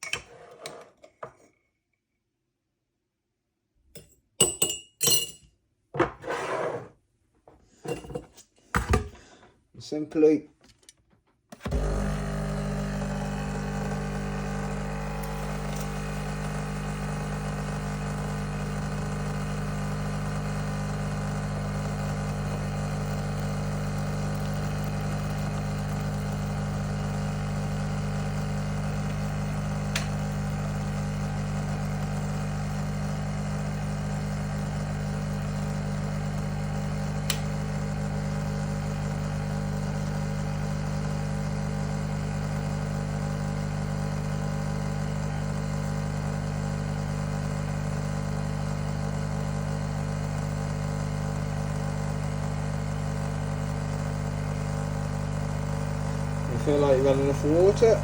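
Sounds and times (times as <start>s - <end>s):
coffee machine pump humming: 11.5s - 58.0s.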